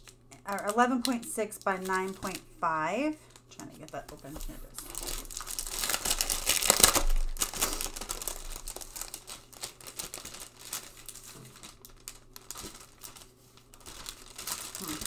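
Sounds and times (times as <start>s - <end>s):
plastic wrapper crinkling: 0.0s - 15.0s.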